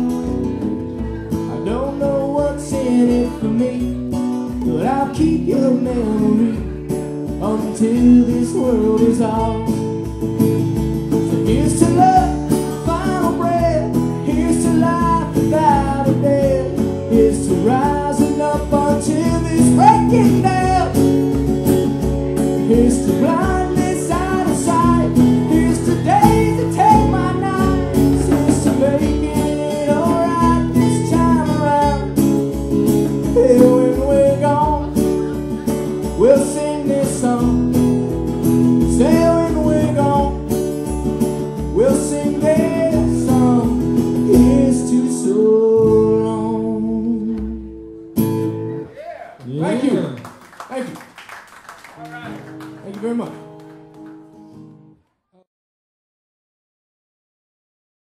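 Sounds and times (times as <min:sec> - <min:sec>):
man singing: 0:00.0 - 0:10.3, 0:11.0 - 0:47.9
strummed acoustic guitar: 0:00.0 - 0:48.9, 0:52.2 - 0:55.0.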